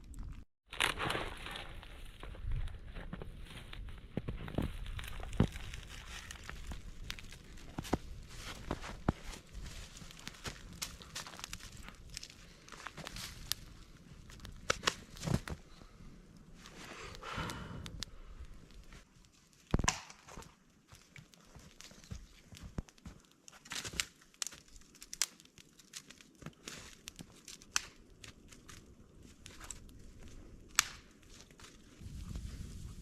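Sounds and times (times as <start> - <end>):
clicks knocks and crinkling: 0.0 - 15.8, 17.5 - 32.0.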